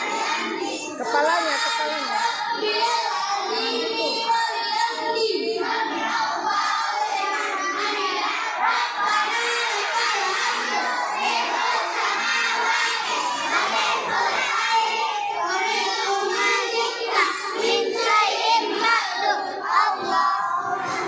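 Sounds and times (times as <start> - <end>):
children chanting in chorus: 0.0 - 21.0.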